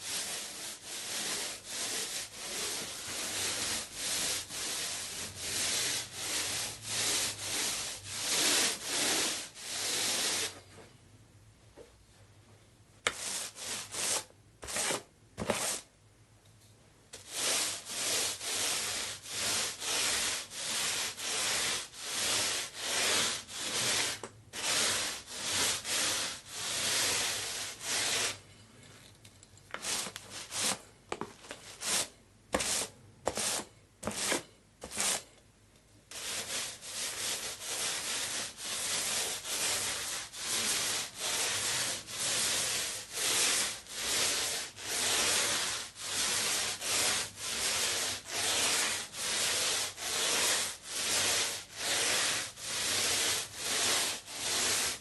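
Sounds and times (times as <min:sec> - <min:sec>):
paint roller rubbing strokes: 0:00.0 - 0:10.6, 0:13.1 - 0:15.9, 0:17.2 - 0:28.4, 0:29.8 - 0:30.8, 0:31.7 - 0:35.2, 0:36.1 - 0:55.0.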